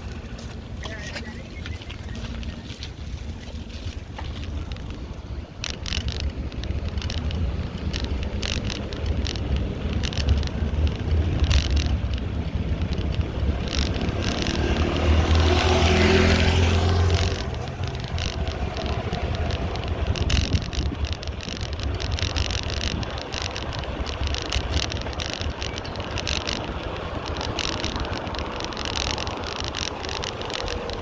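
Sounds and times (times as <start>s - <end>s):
bicycle rattling and clicking: 0.0s - 31.0s
wind rumble on microphone: 0.0s - 31.0s
motor vehicle passing: 1.2s - 31.0s.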